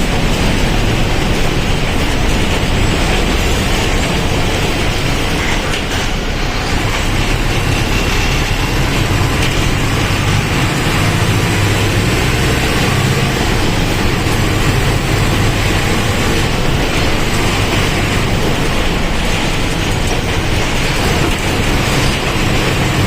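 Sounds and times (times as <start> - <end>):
bus diesel engine running: 0.0 - 23.0
road and body noise: 0.0 - 23.0.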